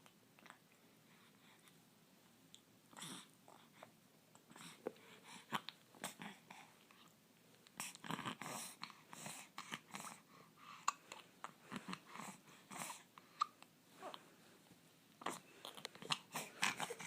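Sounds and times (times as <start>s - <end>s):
soft irregular dog sounds: 0.0s - 17.0s.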